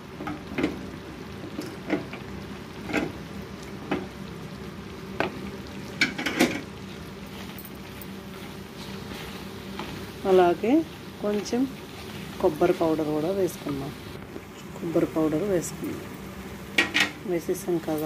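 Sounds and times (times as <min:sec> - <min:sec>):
mixture sizzling in a pan: 0:00.0 - 0:18.0.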